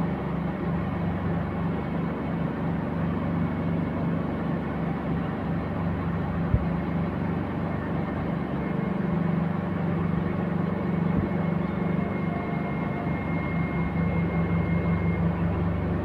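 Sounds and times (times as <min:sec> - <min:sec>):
diesel engines droning: 0:00.0 - 0:16.0.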